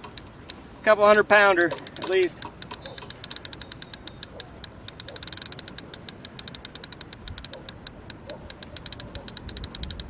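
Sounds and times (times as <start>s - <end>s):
fishing reel clicking: 0.0s - 10.0s.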